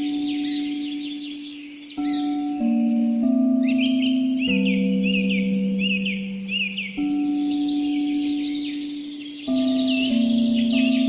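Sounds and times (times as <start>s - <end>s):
slow ambient music: 0.0s - 11.0s
small bird chirping: 0.0s - 11.0s.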